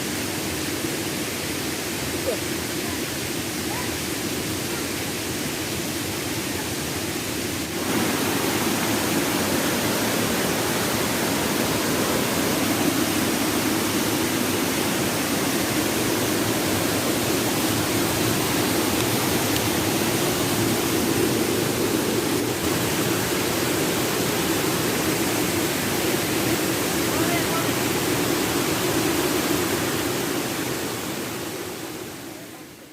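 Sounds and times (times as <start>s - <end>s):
river water rushing over falls: 0.0s - 32.9s.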